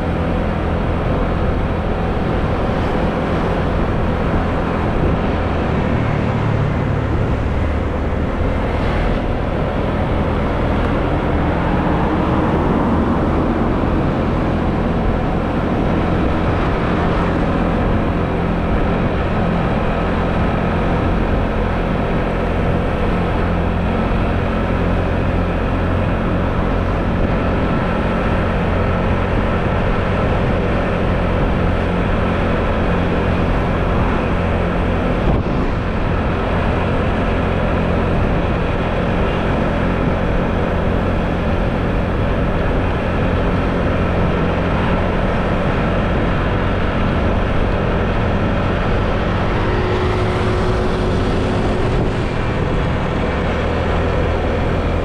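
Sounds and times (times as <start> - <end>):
motor scooter engine hum: 0.0 - 55.0
road and wind noise: 0.0 - 55.0.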